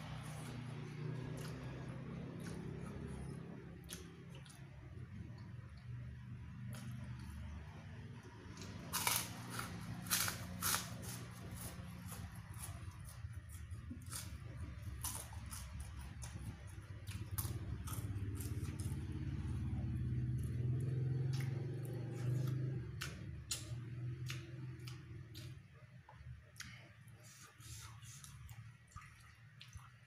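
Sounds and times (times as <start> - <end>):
low engine hum: 0.0 - 25.8.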